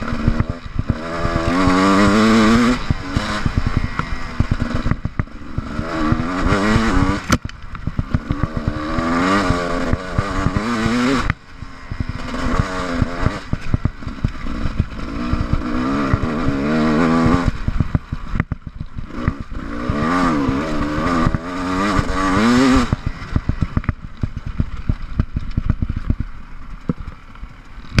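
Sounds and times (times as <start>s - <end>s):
engine ticking and clatter: 0.0s - 28.0s
motorcycle engine revving: 0.0s - 28.0s.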